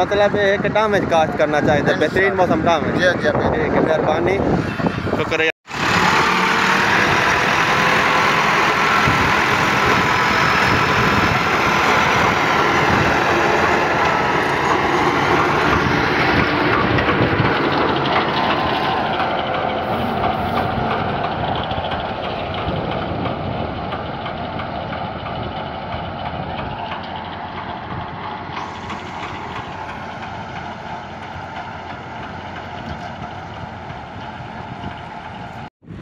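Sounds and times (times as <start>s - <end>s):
diesel tractor engine under load: 0.0s - 36.0s.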